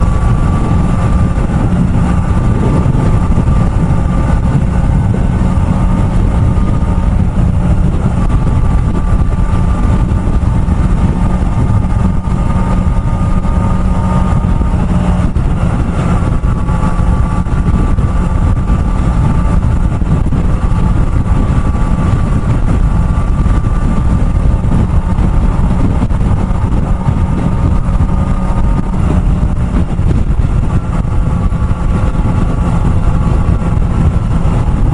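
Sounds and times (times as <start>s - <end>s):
heavy wind noise: 0.0s - 34.9s
motorcycle engine cruising: 0.0s - 34.9s.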